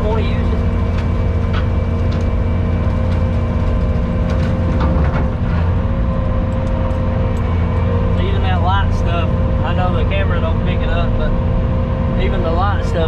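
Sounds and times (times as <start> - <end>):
engine and rotary cutter drone: 0.0 - 13.0
steady whine: 0.0 - 13.0.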